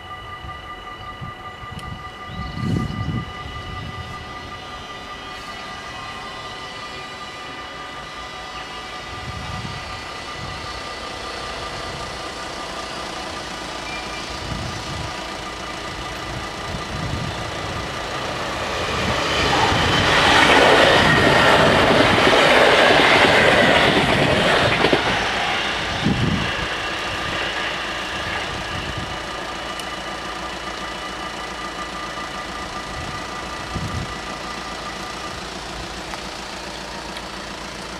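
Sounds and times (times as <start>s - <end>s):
crossing warning bells ringing: 0.0s - 37.9s
electric train passing: 0.0s - 37.9s.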